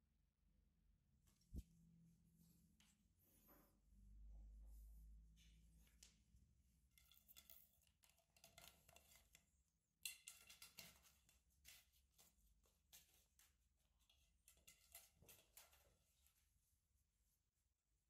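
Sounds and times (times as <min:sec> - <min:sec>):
kitten's paws on tiles: 0:01.2 - 0:17.4.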